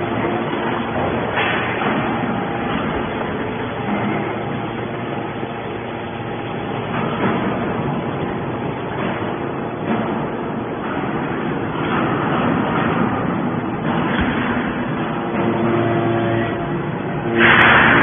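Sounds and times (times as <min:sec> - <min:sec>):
hydraulic baler drone: 0:00.0 - 0:18.0.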